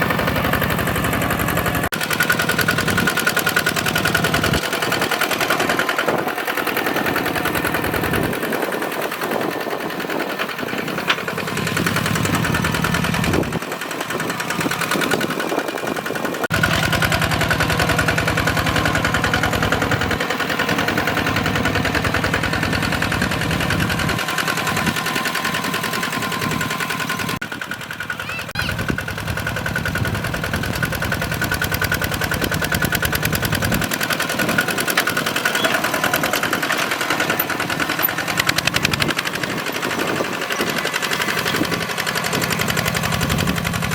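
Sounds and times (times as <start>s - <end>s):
hand tractor diesel engine chugging: 0.0s - 43.9s.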